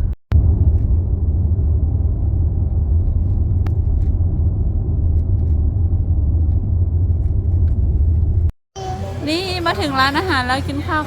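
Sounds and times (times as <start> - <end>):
car road rumble from inside: 0.0 - 11.0.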